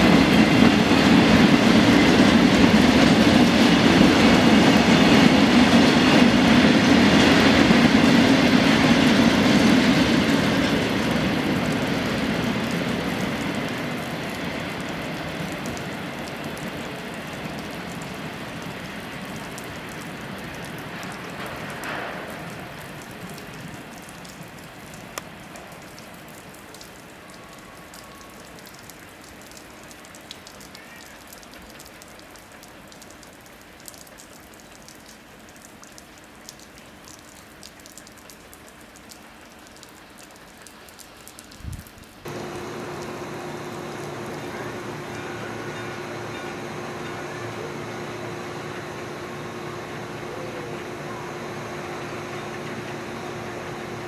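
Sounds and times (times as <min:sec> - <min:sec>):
freight train rumble and rail clatter: 0:00.0 - 0:34.6, 0:41.8 - 0:54.0.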